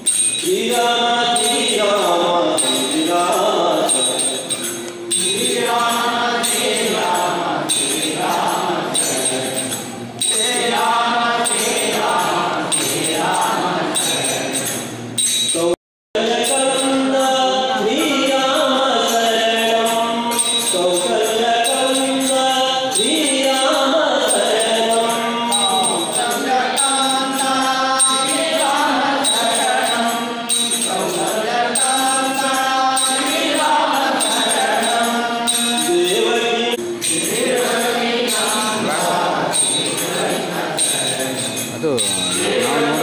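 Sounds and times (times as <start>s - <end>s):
chant-like devotional song: 0.0s - 43.0s.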